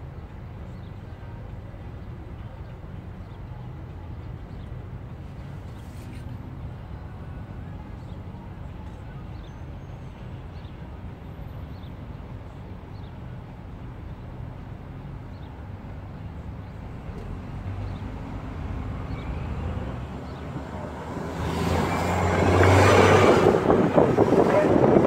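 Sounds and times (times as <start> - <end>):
street noise: 0.0 - 25.0.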